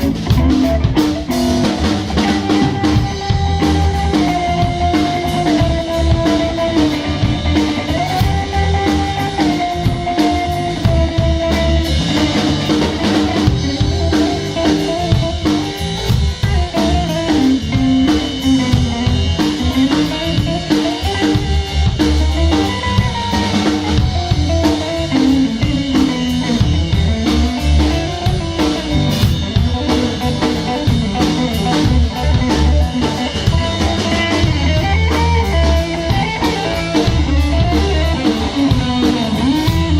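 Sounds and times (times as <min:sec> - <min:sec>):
drum kit beat: 0:00.0 - 0:39.9
instrumental band music: 0:00.0 - 0:39.9.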